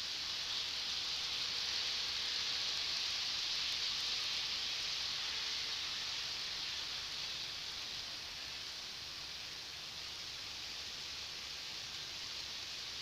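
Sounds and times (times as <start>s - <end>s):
model train rolling hiss: 0.0s - 13.0s.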